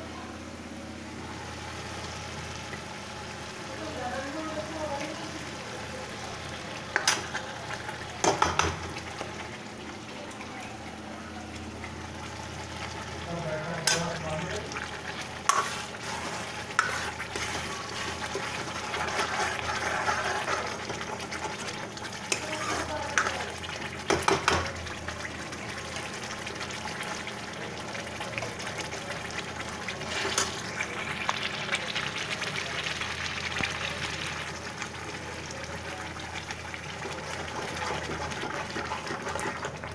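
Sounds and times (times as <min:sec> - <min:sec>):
food sizzling in pan: 0:01.1 - 0:39.9.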